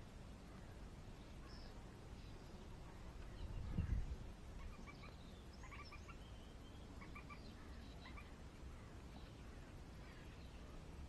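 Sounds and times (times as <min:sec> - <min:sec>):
distant bird chirps: 0:00.5 - 0:11.0.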